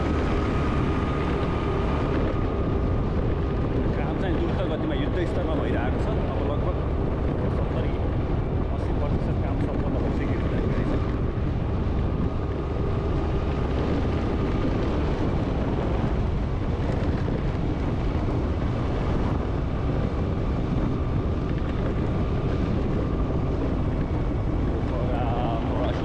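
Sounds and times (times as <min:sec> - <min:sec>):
vehicle running: 0:00.0 - 0:26.0
wind noise on microphone: 0:00.0 - 0:26.0.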